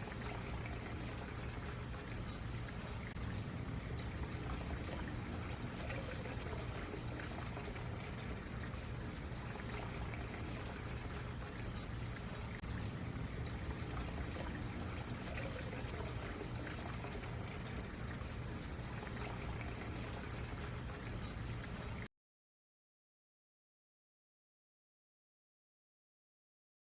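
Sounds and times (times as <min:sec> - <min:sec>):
stream trickling over stones: 0:00.0 - 0:22.1.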